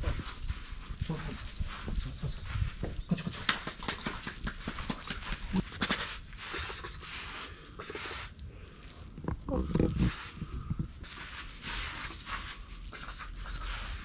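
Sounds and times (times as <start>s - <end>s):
animal paws padding on grass: 0.0s - 14.0s.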